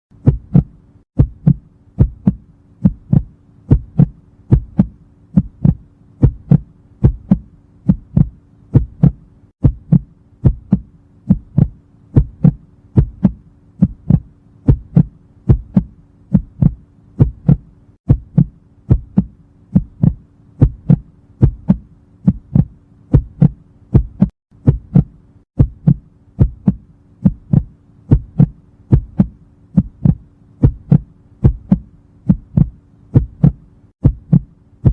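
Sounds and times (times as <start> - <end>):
faint steady hum: 0.1 - 34.9
heartbeat thumps: 0.1 - 34.9.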